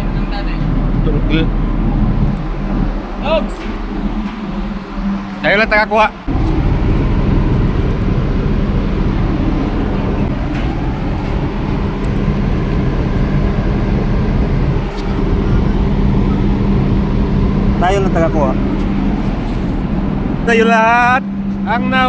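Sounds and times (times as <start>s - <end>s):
motor humming steadily: 0.0s - 22.0s.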